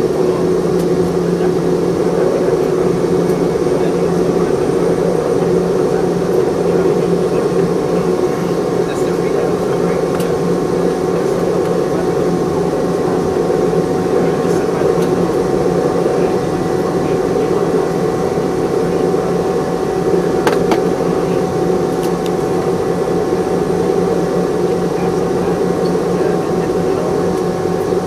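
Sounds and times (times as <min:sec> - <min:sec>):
airplane cabin hum: 0:00.0 - 0:28.0.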